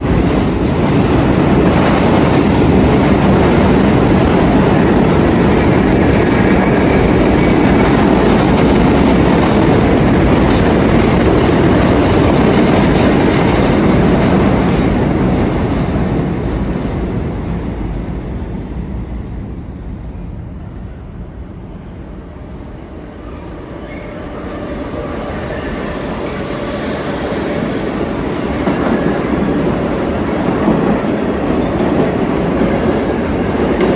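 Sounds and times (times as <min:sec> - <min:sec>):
subway train on rails: 0:00.0 - 0:33.9.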